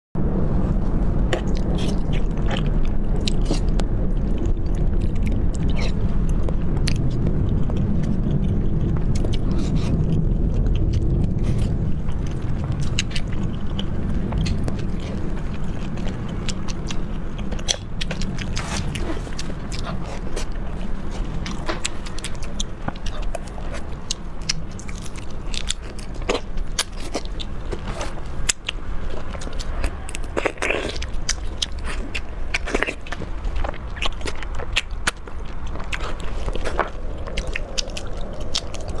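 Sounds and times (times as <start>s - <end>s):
steady low hum: 0.2s - 39.0s
person chewing soft food: 0.9s - 39.0s.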